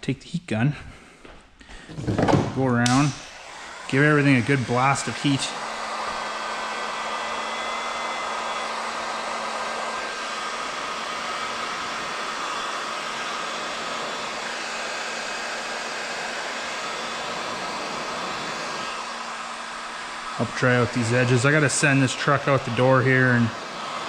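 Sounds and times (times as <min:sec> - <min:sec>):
heat gun blowing: 0:02.6 - 0:24.0.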